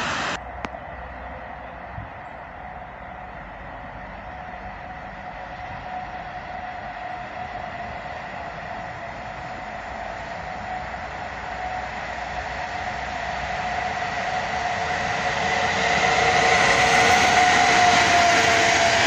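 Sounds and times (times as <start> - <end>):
electric train approaching: 0.0 - 19.0
steady high whine: 0.0 - 19.0.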